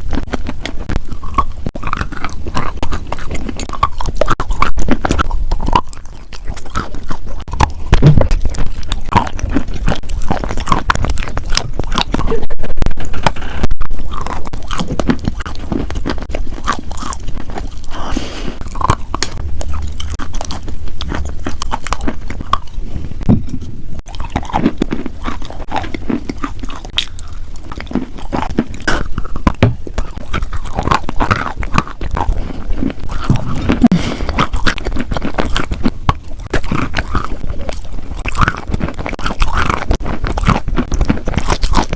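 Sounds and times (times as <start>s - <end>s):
crunching and chewing crunchy food: 0.0s - 41.9s.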